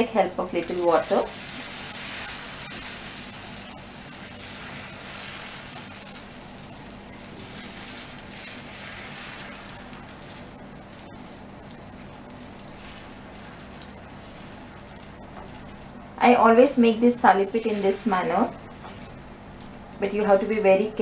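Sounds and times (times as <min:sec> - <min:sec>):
batter sizzling on hot griddle: 0:00.0 - 0:21.0.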